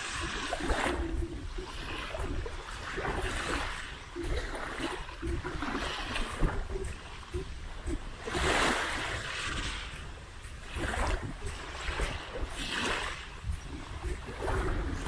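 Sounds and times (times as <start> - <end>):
small waves washing onto beach: 0.0 - 15.0.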